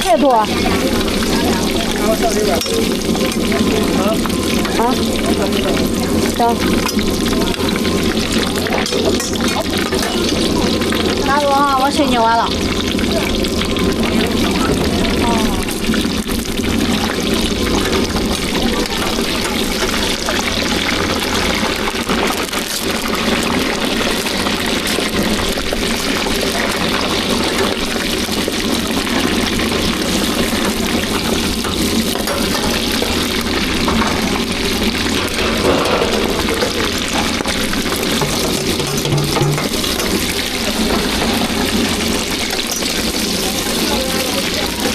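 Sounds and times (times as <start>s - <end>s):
faint voices: 0.0s - 44.9s
liquid frying in hot pan: 0.0s - 44.9s.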